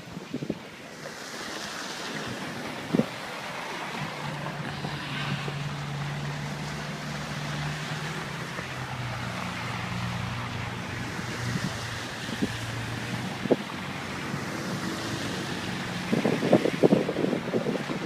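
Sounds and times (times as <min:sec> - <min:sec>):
wind noise on microphone: 0:00.0 - 0:18.0
vehicle engine passing: 0:02.0 - 0:18.0.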